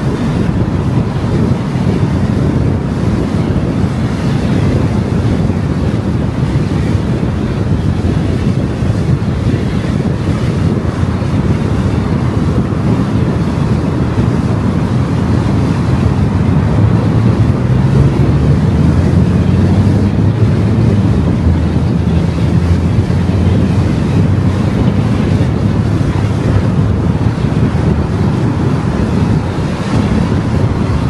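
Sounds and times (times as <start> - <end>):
car road and wind noise: 0.0 - 31.0
faint engine hum: 0.0 - 31.0
low rumble: 0.0 - 31.0.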